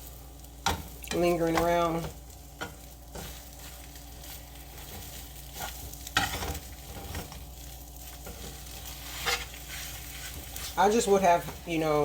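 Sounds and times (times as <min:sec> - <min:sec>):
eggs sizzling in a pan: 0:00.0 - 0:12.0
utensil scraping a pan: 0:01.5 - 0:12.0.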